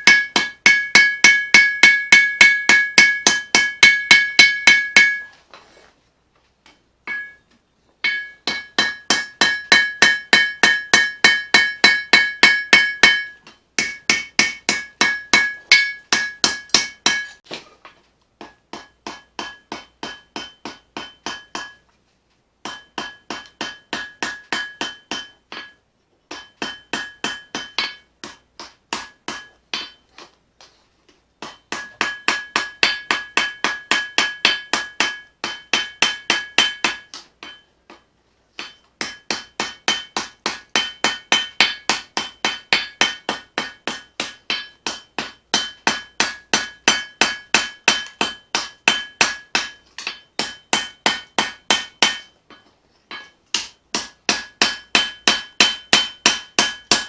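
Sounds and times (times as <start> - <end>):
hammer ringing on anvil: 0.0 - 5.3, 7.1 - 7.4, 8.0 - 17.4, 18.4 - 21.8, 22.7 - 28.4, 31.4 - 38.0, 38.6 - 57.0.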